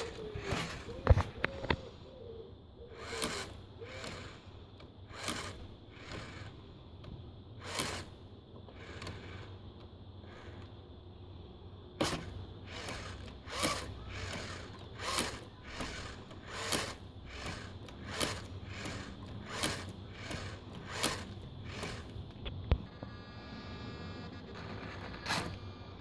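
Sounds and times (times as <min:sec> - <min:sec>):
servo clicking: 0:00.0 - 0:02.0, 0:02.9 - 0:10.8, 0:12.0 - 0:22.9.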